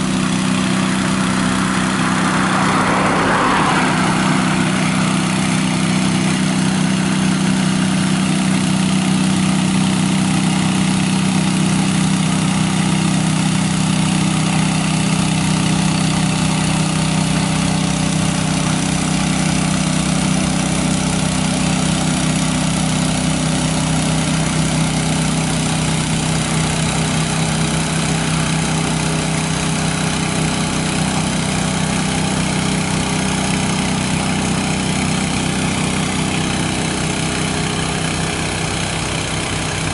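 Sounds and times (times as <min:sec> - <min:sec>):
heavy truck engine running: 0:00.0 - 0:39.9.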